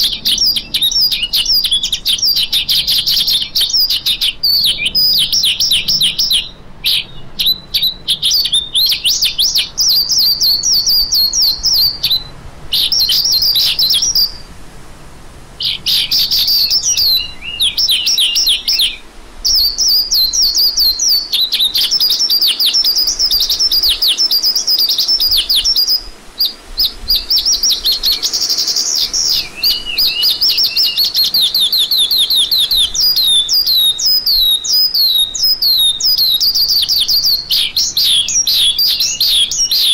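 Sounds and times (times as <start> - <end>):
lark singing chirps and trills: 0.0 - 14.5, 15.6 - 39.9.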